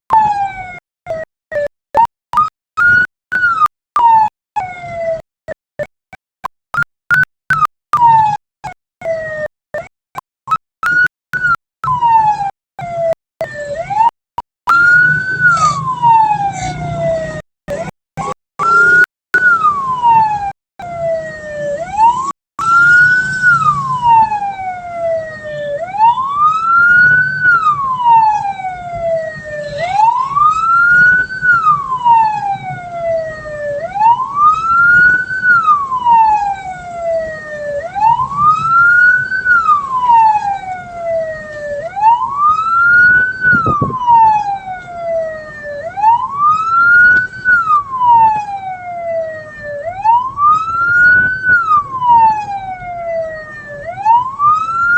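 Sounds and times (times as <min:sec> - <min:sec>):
vehicle siren wailing: 0:00.1 - 0:05.9, 0:06.8 - 0:09.9, 0:10.5 - 0:54.9.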